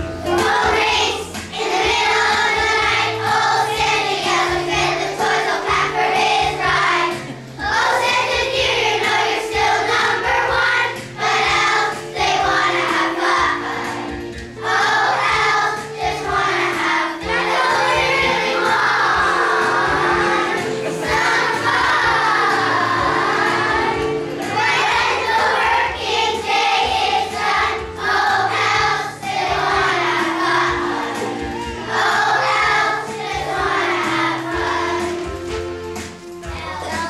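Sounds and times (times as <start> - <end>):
children's choir singing: 0.0 - 37.0
instrumental accompaniment: 0.0 - 37.0.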